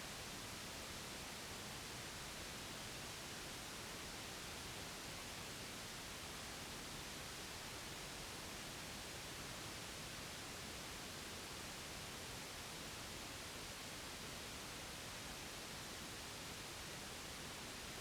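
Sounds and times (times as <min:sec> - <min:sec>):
steady white noise hiss: 0:00.0 - 0:18.0.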